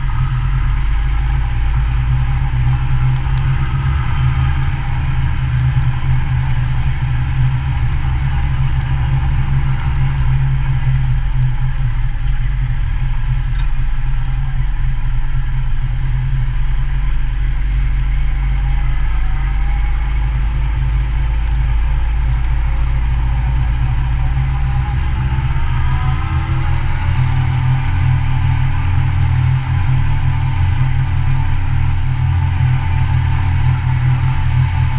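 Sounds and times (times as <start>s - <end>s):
deep rumble: 0.0s - 34.9s.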